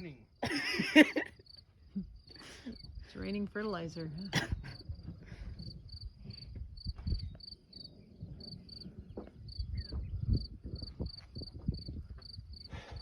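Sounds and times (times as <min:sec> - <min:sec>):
crickets chirping: 0:00.0 - 0:13.0
wind rumble on microphone: 0:02.0 - 0:13.0.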